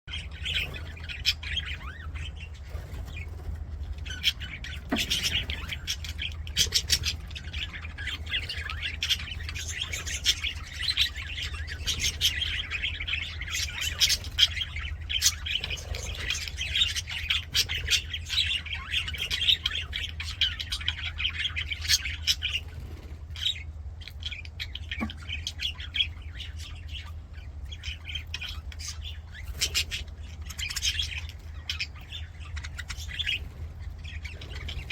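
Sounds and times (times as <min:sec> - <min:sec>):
budgerigars chattering and warbling: 0:00.1 - 0:34.9
low steady hum: 0:00.1 - 0:34.9.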